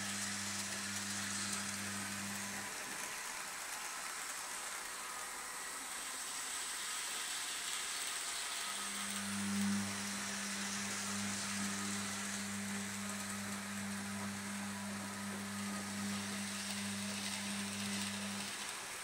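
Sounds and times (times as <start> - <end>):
model train motor hum: 0.0 - 19.0
wheels rolling on rails: 0.0 - 19.0.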